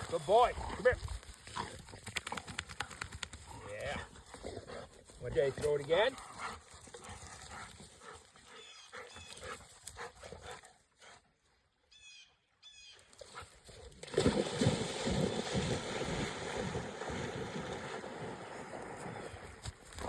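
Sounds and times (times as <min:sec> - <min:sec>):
dogs splashing through water: 0:00.0 - 0:10.4, 0:13.1 - 0:20.0.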